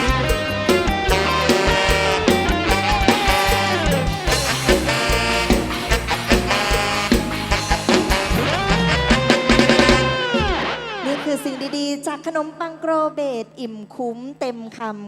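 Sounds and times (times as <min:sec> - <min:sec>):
live band playing upbeat music: 0:00.0 - 0:12.1.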